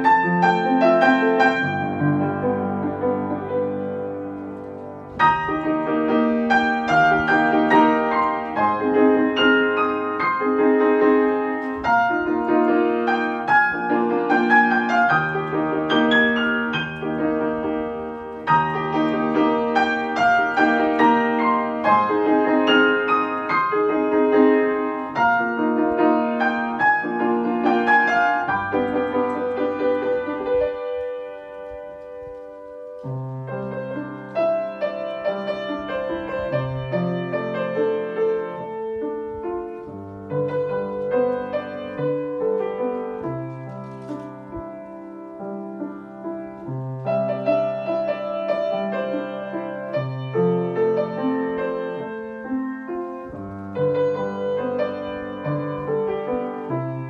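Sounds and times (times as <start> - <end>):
slow lyrical piano ballad: 0.0 - 57.0.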